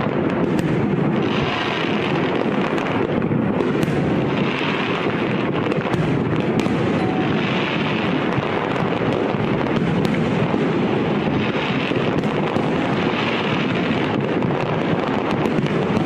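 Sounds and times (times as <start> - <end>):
fireworks bursts rumbling: 0.0 - 16.0
fireworks crackles: 0.0 - 16.0
fireworks hiss: 0.0 - 16.0.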